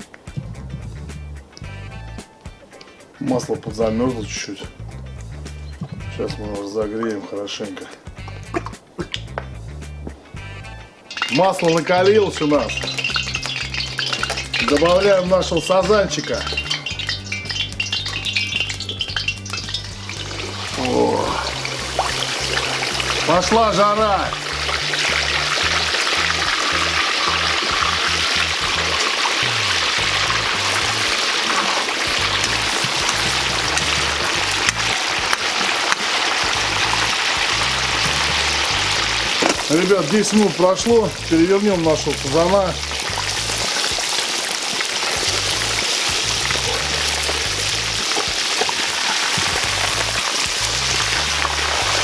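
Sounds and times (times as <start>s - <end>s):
background music with bass line: 0.0s - 31.4s, 32.1s - 35.8s, 36.4s - 44.1s, 45.1s - 52.0s
oil sizzling and bubbling: 8.0s - 52.0s.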